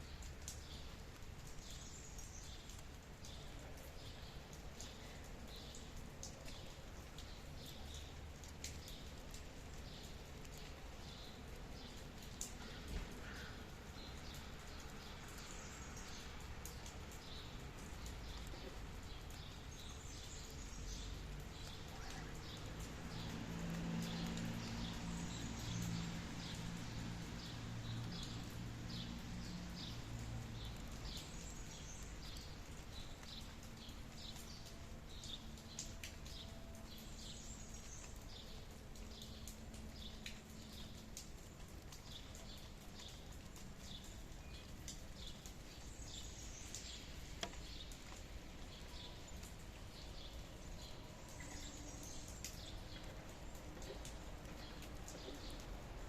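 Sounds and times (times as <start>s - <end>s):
light rain hissing: 0.0s - 56.0s.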